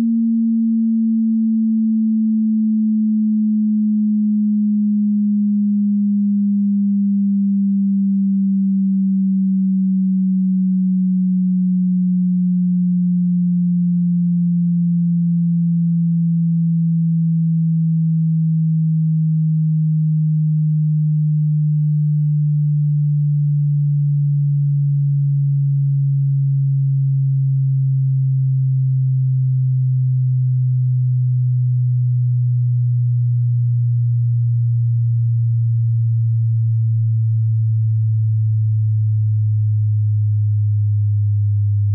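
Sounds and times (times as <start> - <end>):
sine tone gliding downward: 0.0 - 41.9.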